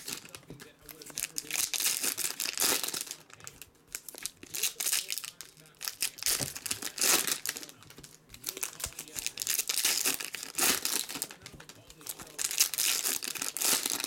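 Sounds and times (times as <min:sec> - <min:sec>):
foil wrappers crinkling and tearing: 0:00.0 - 0:14.0.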